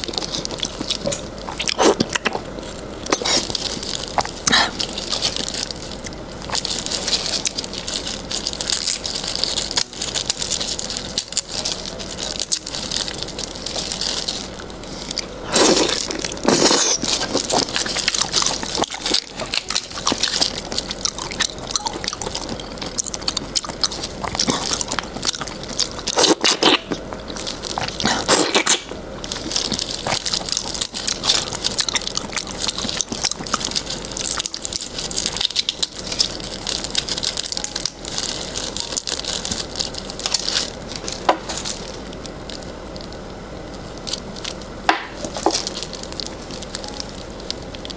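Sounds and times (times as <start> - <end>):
wet squishing of flesh: 0.0 - 43.2
plastic gloves rustling: 0.0 - 47.9
prawn shell crackling: 0.0 - 47.9.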